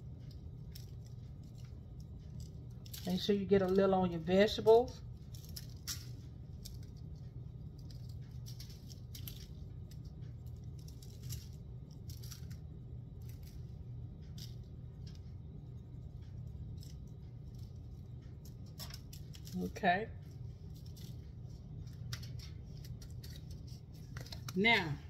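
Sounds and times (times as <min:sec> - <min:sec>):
seasoning sprinkling ticks: 0:00.0 - 0:24.6
low hum: 0:00.0 - 0:25.0.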